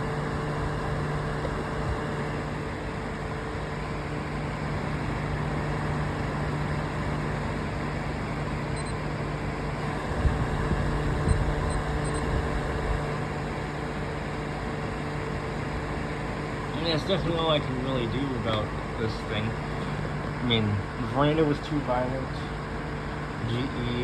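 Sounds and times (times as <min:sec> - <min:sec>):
fan blowing air with motor hum: 0:00.0 - 0:24.0.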